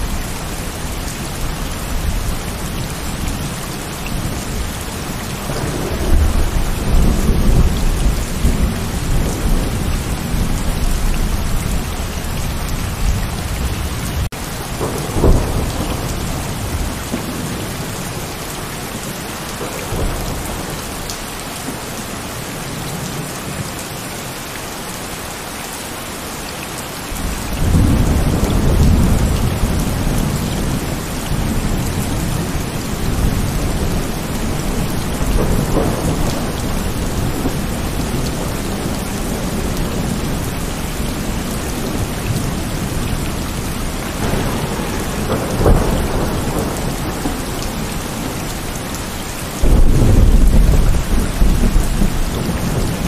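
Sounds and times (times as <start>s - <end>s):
thunder rumbling: 0.0s - 21.9s, 27.1s - 53.0s
heavy rain falling: 0.0s - 53.0s.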